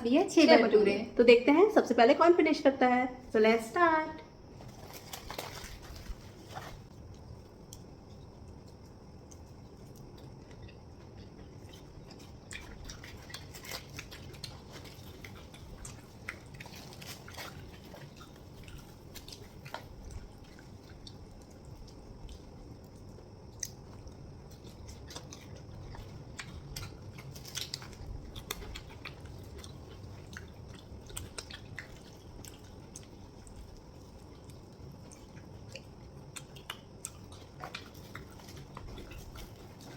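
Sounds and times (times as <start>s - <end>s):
faint low hum: 0.0s - 39.9s
people chewing and biting: 4.4s - 39.9s.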